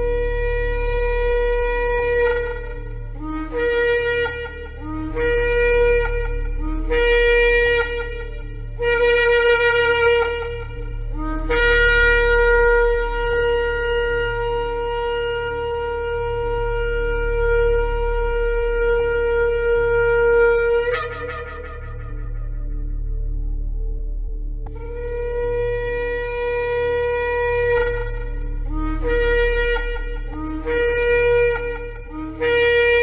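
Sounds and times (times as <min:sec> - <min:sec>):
shofar blasts: 0:00.0 - 0:23.4, 0:24.7 - 0:33.0.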